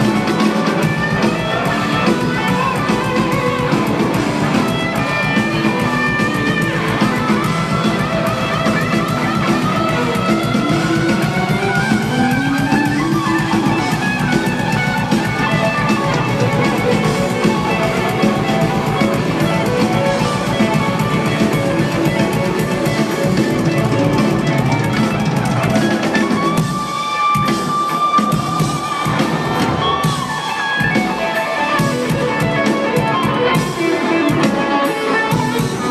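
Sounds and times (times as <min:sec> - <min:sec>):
bass guitar: 0:00.0 - 0:35.9
drum kit: 0:00.0 - 0:35.9
electric guitar: 0:00.0 - 0:35.9.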